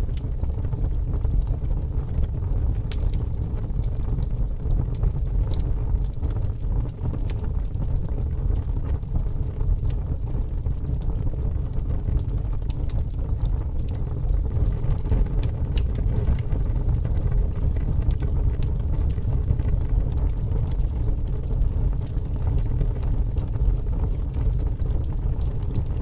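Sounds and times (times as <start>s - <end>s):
fire crackling and popping: 0.0s - 26.0s
fire rumbling: 0.0s - 26.0s.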